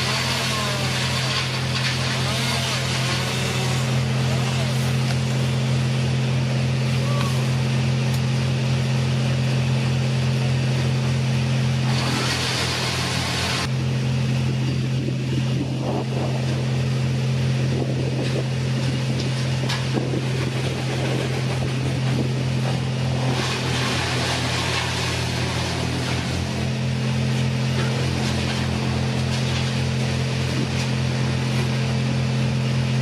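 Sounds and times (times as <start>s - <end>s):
chainsaw engine running: 0.0s - 33.0s.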